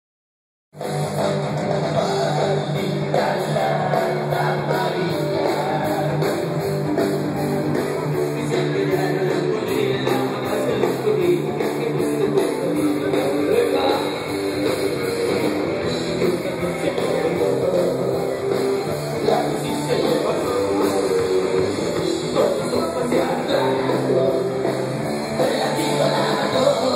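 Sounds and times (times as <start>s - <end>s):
rock music with singing: 0.8s - 26.9s.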